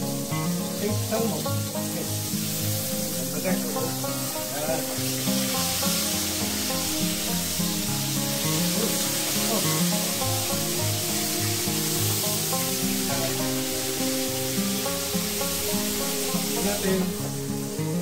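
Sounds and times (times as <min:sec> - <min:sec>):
background music with bass line: 0:00.0 - 0:18.0
food sizzling in hot oil: 0:00.0 - 0:18.0.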